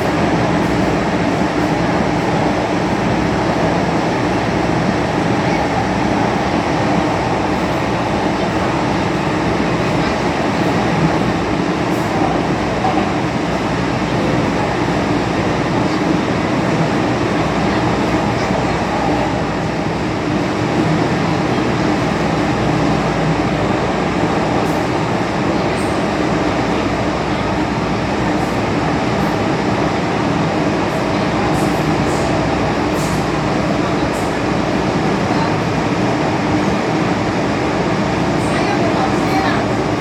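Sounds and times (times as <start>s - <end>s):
train running rumble: 0.0s - 40.0s.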